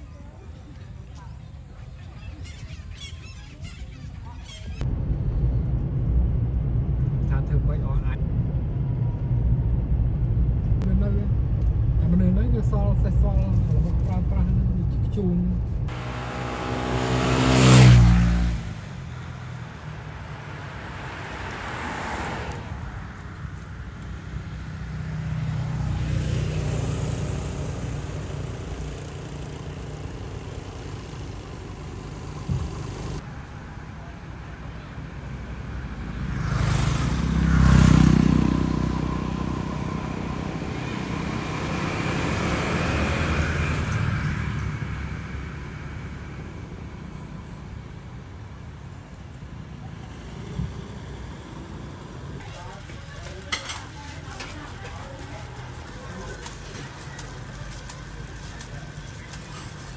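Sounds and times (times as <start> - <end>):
steady traffic noise: 0.0 - 59.9
vehicles passing close by: 0.0 - 59.9.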